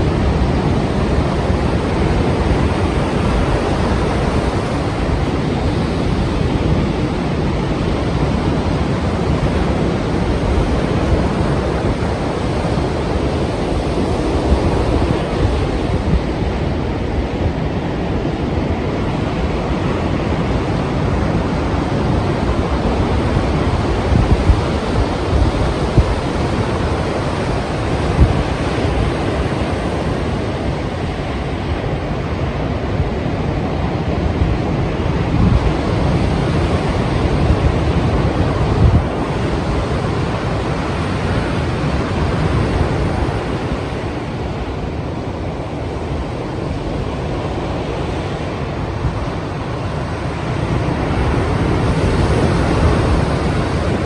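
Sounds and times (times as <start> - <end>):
sea surf breaking: 0.0 - 54.0
wind on microphone: 0.0 - 54.0.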